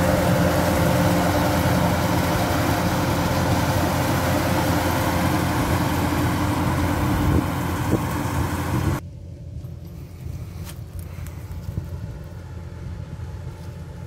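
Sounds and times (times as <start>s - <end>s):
combine harvester droning: 0.0s - 14.0s
outdoor noise: 0.0s - 14.0s.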